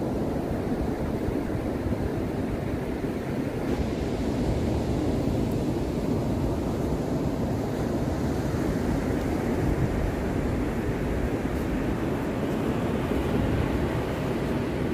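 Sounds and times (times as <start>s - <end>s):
surf washing: 0.0s - 14.9s
wind rumbling on microphone: 0.0s - 14.9s.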